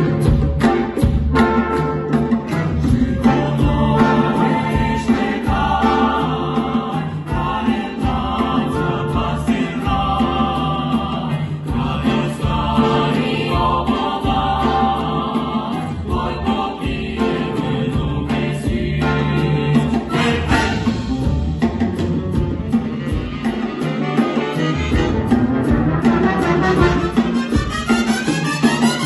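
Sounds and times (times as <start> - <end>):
variety orchestra playing: 0.0 - 29.0
vocal ensemble singing: 0.0 - 29.0.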